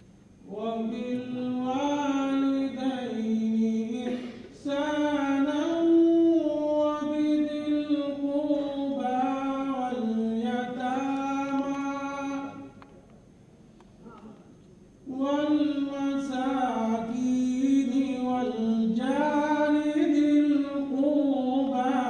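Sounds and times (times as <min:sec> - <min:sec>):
person chanting unaccompanied: 0:00.4 - 0:12.9, 0:15.1 - 0:22.0.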